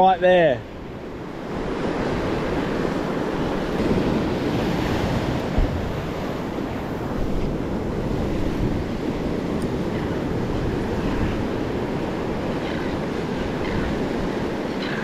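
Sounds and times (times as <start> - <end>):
shallow surf washing over sand: 0.0 - 15.0
wind buffeting microphone: 0.7 - 15.0.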